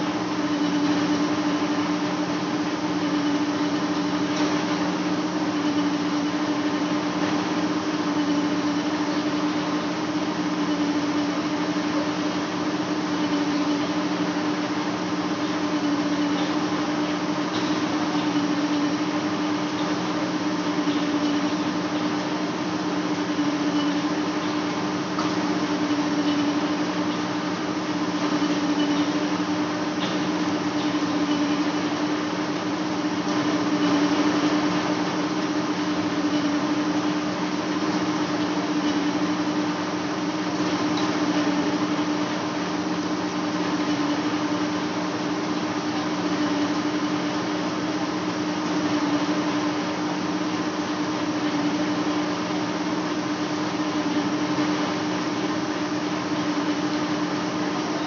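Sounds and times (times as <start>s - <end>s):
lathe machine hum: 0.0s - 58.0s.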